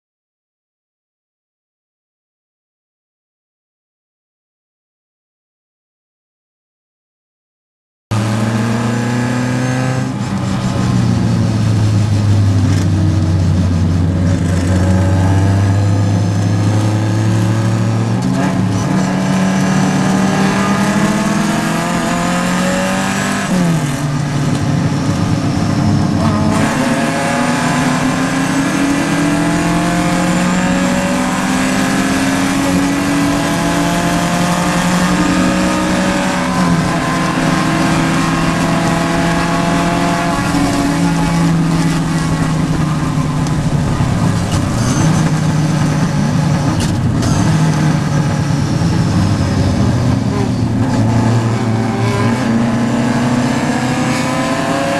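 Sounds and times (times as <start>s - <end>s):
race car engine accelerating: 8.1s - 54.9s.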